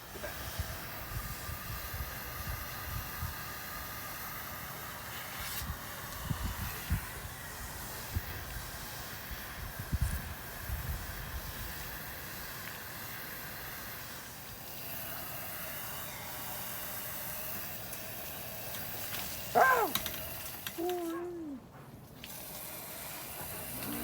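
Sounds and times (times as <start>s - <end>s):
steady hissing noise: 0.0s - 24.0s.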